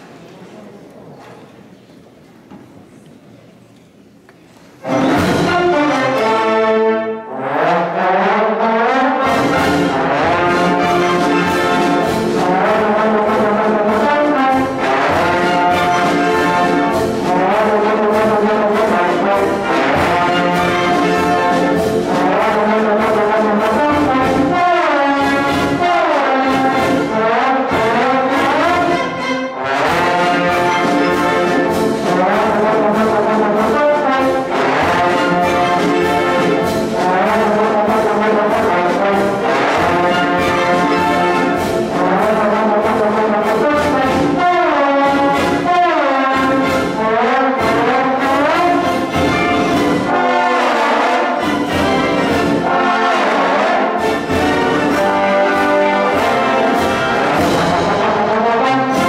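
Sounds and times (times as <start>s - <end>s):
concert band playing: 4.4s - 59.0s
trombone section: 4.8s - 59.0s
trombone slide glissandos: 4.8s - 59.0s.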